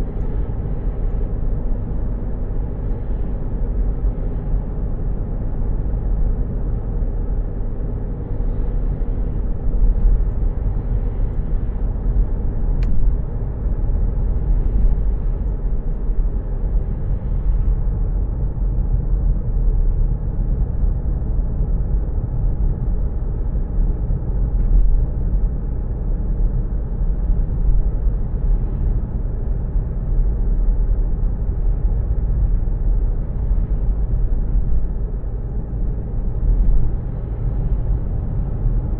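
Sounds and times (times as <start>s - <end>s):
road and engine rumble in car: 0.0s - 38.9s.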